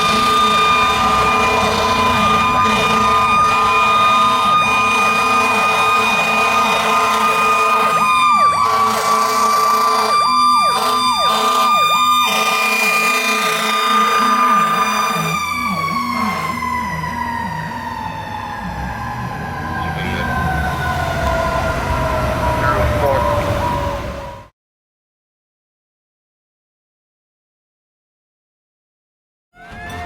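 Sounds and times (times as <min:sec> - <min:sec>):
high siren tone: 0:00.0 - 0:24.5, 0:29.6 - 0:30.0
low warbling siren: 0:00.0 - 0:24.5, 0:29.6 - 0:30.0.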